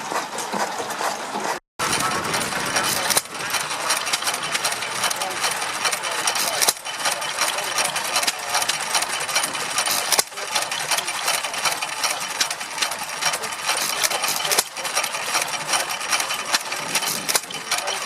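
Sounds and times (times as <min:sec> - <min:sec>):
stationary engines clattering: 0:00.0 - 0:18.0.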